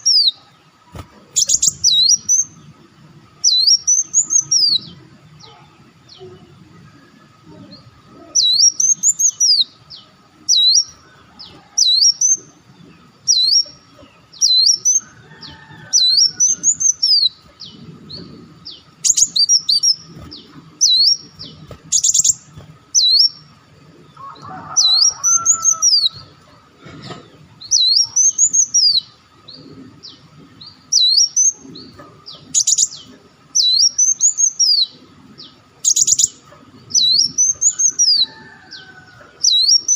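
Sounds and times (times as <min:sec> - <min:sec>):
buzzy bird trills: 0:00.0 - 0:02.6, 0:03.4 - 0:39.9
sunbird calling: 0:00.0 - 0:02.8, 0:03.4 - 0:39.9.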